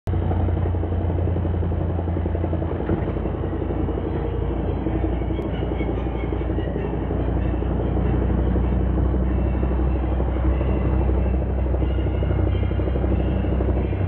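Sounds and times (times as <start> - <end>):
car engine and drivetrain drone: 0.1 - 14.0.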